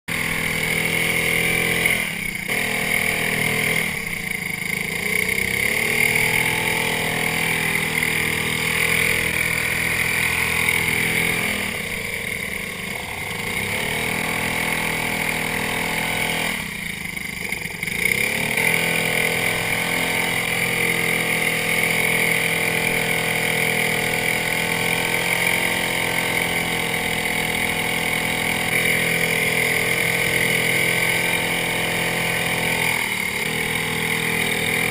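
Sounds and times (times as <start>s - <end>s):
small boat engines running: 0.1s - 34.9s.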